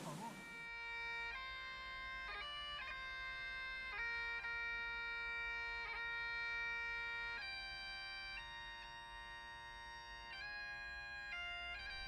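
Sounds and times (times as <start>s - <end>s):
bagpipe melody: 0.0s - 12.0s.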